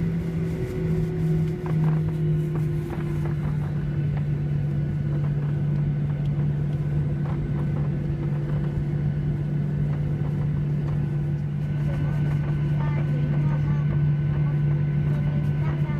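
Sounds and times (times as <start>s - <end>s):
airplane cabin engine drone: 0.0s - 15.9s.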